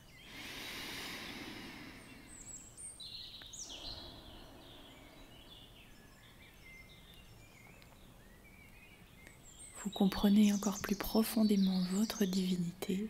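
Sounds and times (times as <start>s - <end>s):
faint birdsong chirps and whistles: 0.0s - 13.0s
soft steady background hiss: 0.0s - 13.0s.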